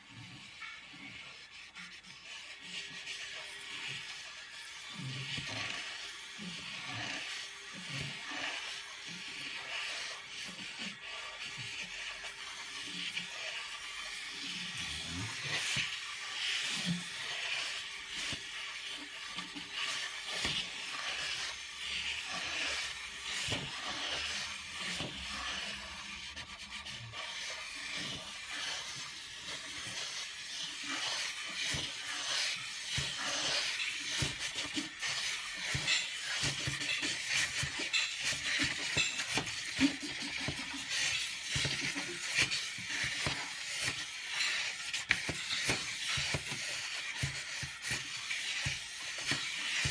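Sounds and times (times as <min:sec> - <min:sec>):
drawing sticks scratching on paper: 0:00.0 - 0:49.9.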